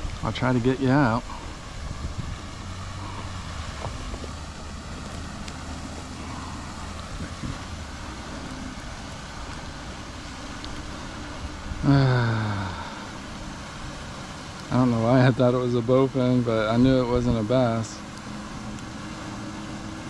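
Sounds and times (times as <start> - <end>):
light wind noise: 0.0 - 20.0
low motor hum: 0.0 - 20.0.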